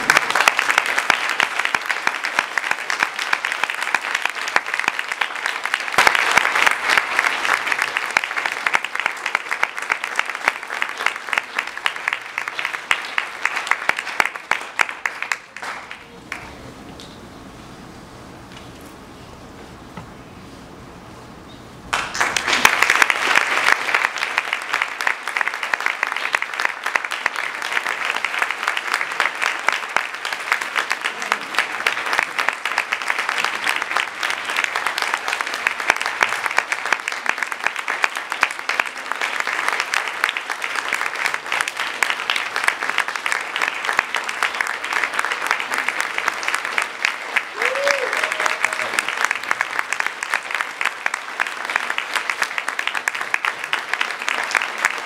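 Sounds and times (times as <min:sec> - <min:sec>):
audience applauding: 0:00.0 - 0:16.7, 0:21.9 - 0:55.0.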